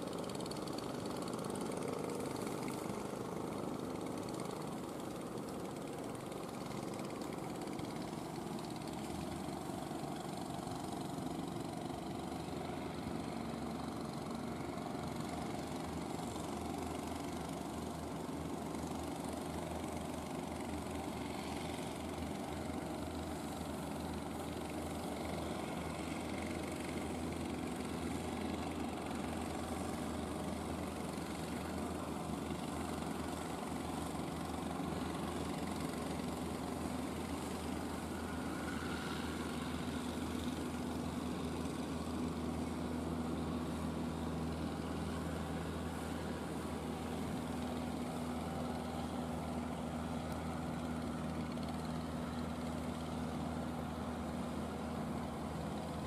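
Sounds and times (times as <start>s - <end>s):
boat engines humming: 0.0s - 56.0s.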